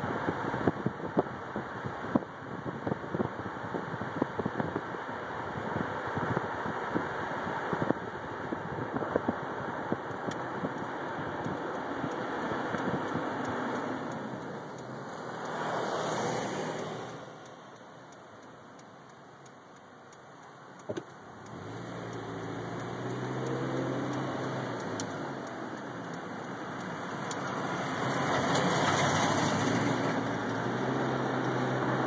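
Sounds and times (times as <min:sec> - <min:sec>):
car engine and road noise: 0:00.0 - 0:32.0
low engine hum: 0:00.0 - 0:32.0.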